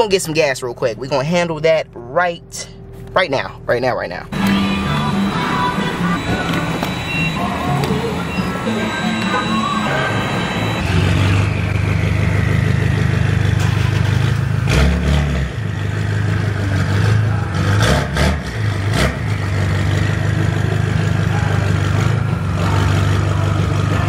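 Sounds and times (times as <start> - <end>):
car engine running: 0.0 - 24.0
car engine revving: 2.6 - 24.0
falling engine whine: 4.1 - 24.0.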